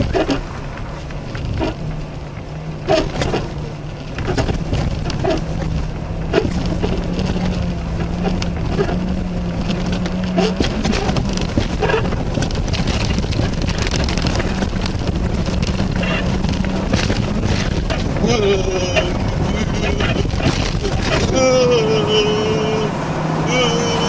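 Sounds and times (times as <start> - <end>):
car engine droning: 0.0 - 24.0
suspension thumps and rattles: 0.0 - 24.0.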